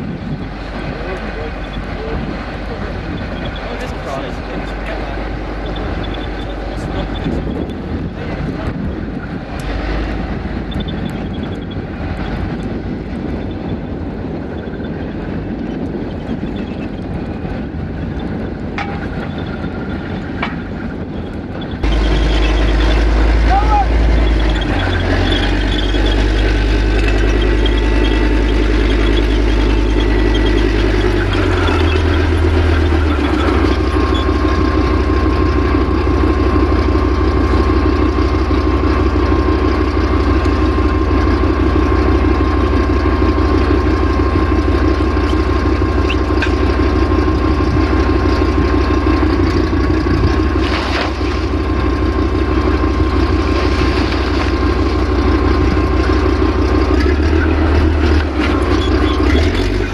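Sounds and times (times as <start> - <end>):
diesel engine idling: 0.0 - 59.9
thin steady whine: 0.0 - 59.9.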